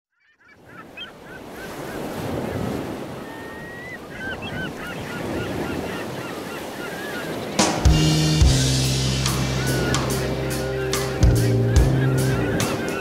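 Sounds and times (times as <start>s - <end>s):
honking bird calls: 0.2s - 13.0s
surf washing: 0.6s - 13.0s.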